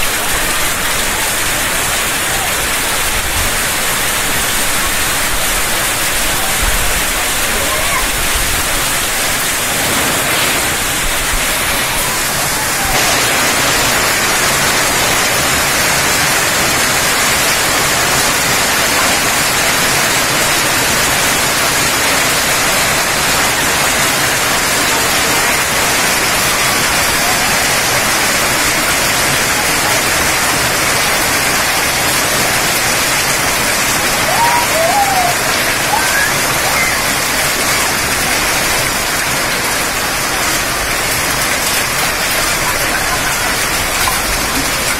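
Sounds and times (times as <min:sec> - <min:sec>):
torrential rain and hail on pavement: 0:00.0 - 0:44.9.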